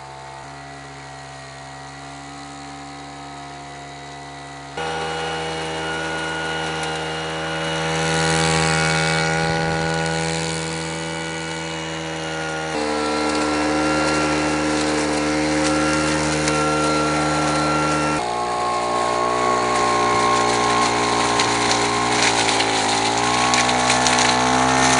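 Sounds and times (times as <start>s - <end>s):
leaf vacuum engine drone: 0.0s - 24.9s.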